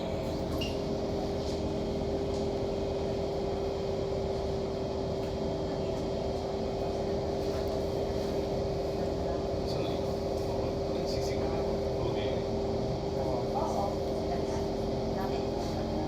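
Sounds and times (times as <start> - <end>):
constant train hum: 0.0 - 16.0.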